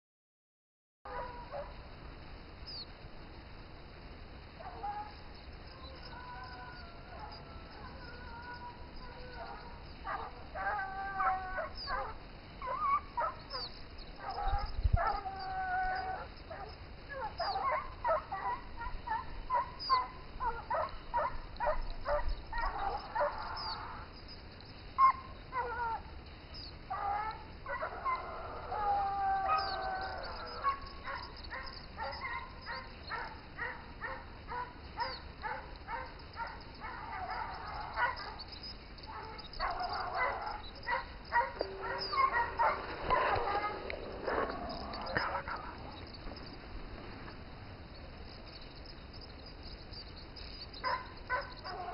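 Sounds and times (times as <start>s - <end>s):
hunting dogs barking and baying: 1.1s - 2.0s, 3.4s - 51.9s.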